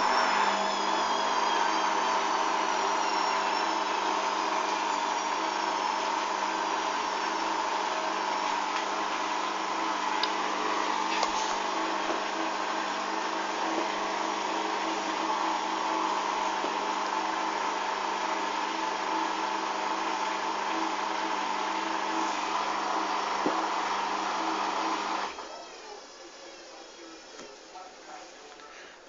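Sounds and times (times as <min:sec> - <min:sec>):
washing machine motor whine: 0:00.0 - 0:29.0.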